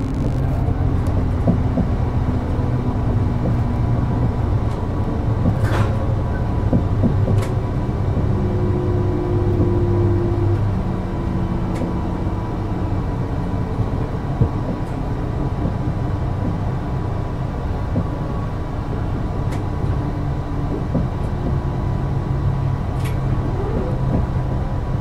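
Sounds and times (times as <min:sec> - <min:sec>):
low running rumble: 0:00.0 - 0:25.0
train inverter whine: 0:00.0 - 0:25.0.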